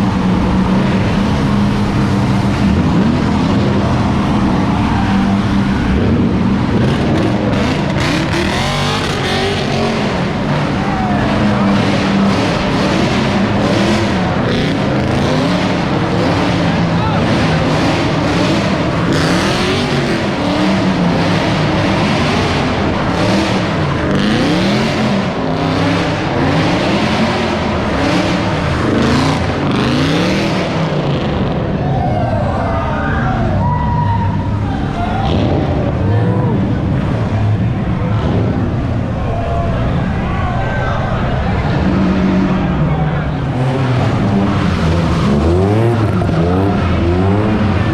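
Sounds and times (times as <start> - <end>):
car engine revving hard: 0.0 - 31.7, 41.1 - 47.9.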